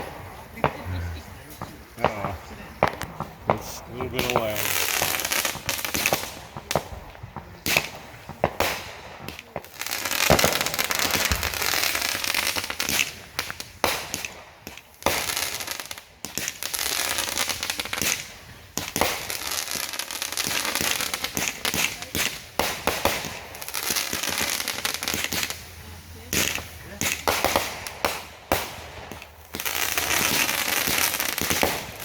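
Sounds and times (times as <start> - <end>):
fireworks bangs: 0.0 - 32.0
fireworks crackling and hissing: 0.0 - 32.0.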